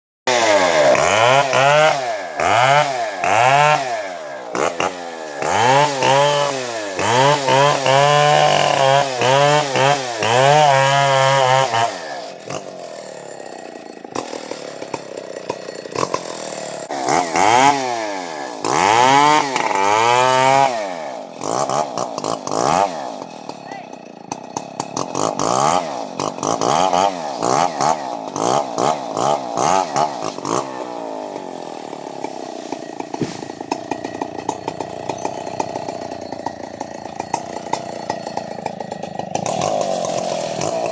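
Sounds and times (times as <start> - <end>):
chainsaw revving cutting wood: 0.3 - 40.9.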